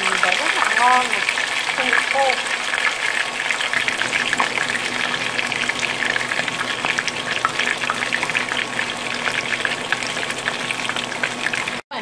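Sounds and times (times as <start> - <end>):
chicken frying in hot oil: 0.0 - 11.9.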